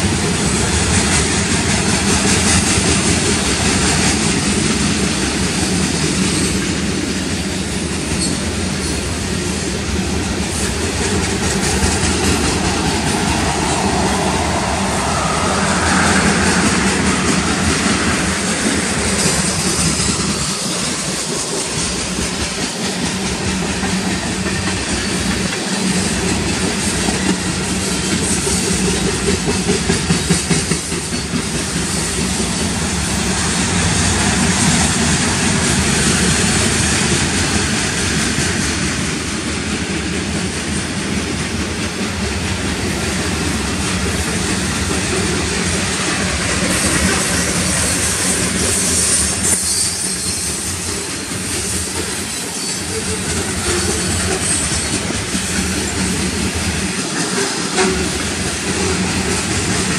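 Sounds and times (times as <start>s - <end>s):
freight train wheels rolling: 0.0s - 59.9s.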